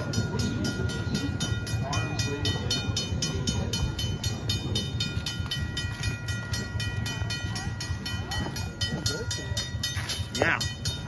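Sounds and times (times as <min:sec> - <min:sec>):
crossing warning bell ringing: 0:00.0 - 0:11.0.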